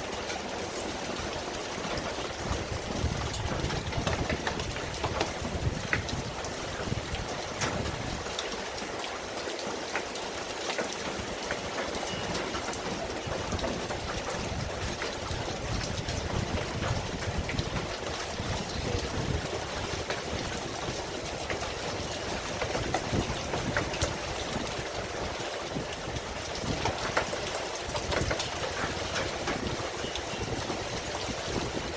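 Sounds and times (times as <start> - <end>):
raindrops ticking: 0.0 - 31.9
steady rain falling: 0.0 - 31.9.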